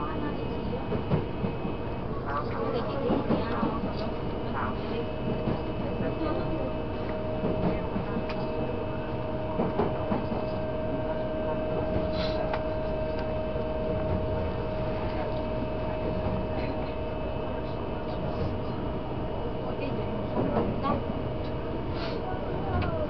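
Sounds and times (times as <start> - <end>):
train rumble from inside: 0.0 - 23.0.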